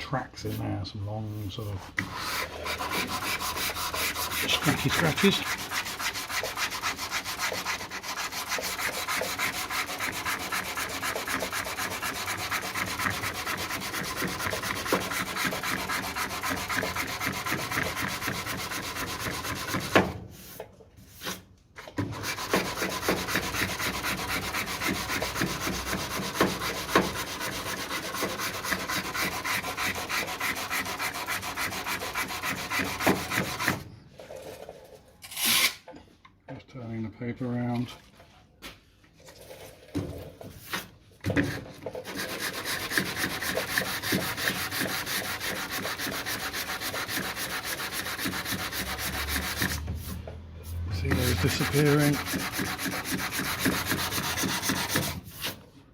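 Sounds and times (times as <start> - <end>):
hand sanding scraping strokes: 0.4 - 33.8, 40.6 - 55.6.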